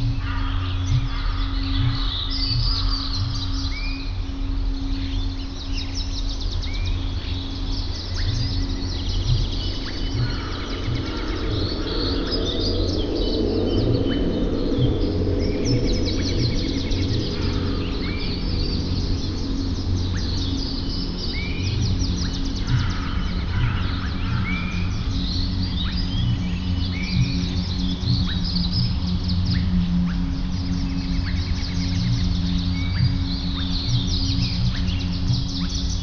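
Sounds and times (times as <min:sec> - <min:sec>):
small songbirds chirping: 0:00.0 - 0:36.0
steady low rumble: 0:00.0 - 0:36.0.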